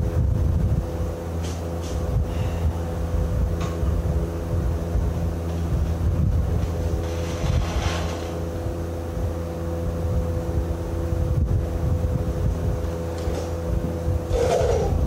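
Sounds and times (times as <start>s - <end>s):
engine droning steadily: 0.0s - 15.0s.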